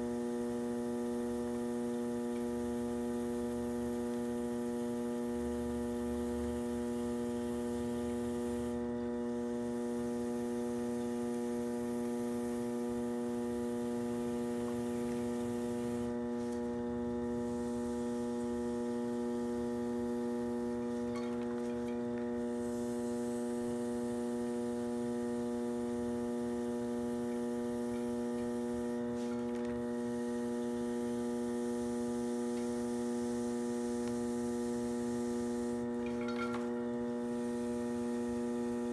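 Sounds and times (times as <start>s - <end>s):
potter's wheel electrical hum: 0.0s - 38.9s.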